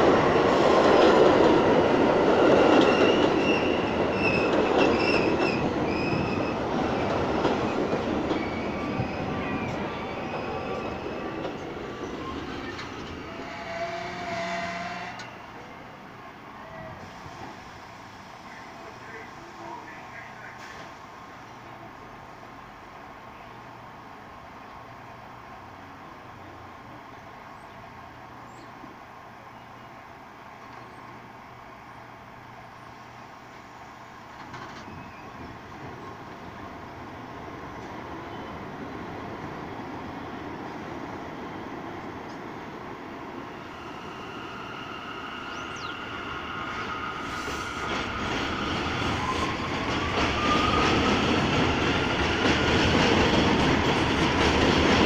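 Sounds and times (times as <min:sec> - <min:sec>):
subway train rumbling: 0:00.0 - 0:55.0.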